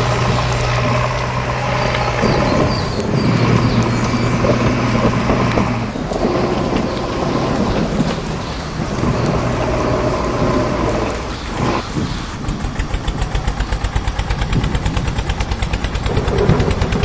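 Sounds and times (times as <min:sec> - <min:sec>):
heavy diesel engine running: 0:00.0 - 0:17.0
heavy rain: 0:00.0 - 0:17.0.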